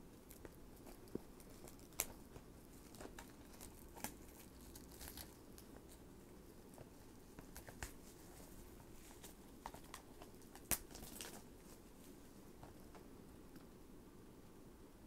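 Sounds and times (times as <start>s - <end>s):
plastic wrap crinkling: 0.0s - 6.0s, 6.6s - 13.0s.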